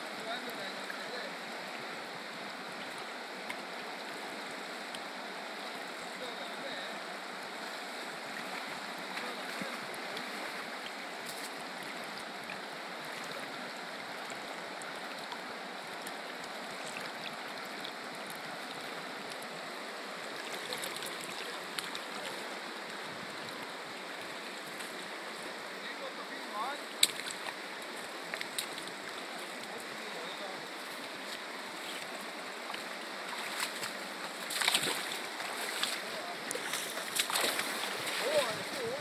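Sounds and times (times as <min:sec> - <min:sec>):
river rushing over rocks: 0:00.0 - 0:39.0.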